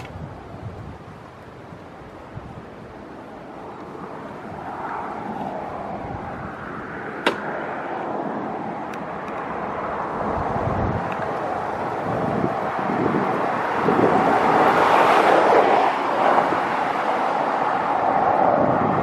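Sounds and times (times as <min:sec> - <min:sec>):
car passing close: 0:03.0 - 0:19.0.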